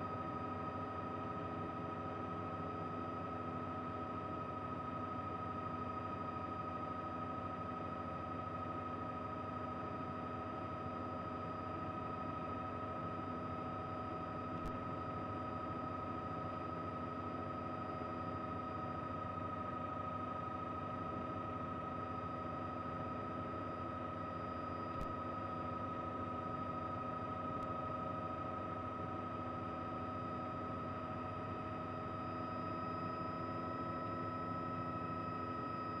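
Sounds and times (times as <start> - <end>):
helicopter cabin drone: 0.0 - 36.0.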